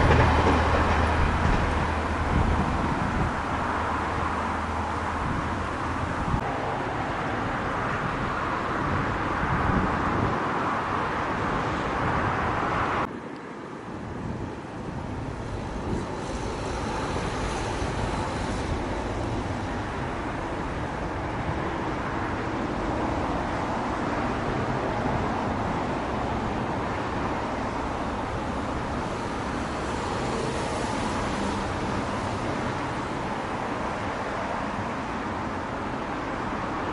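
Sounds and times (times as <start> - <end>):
road traffic with tyre hiss: 0.0 - 36.9.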